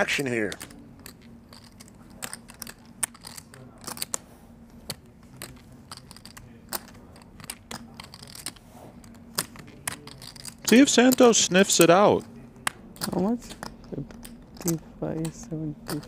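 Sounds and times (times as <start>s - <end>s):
faint steady hum: 0.0s - 16.0s
poker chips clicking: 0.1s - 16.0s.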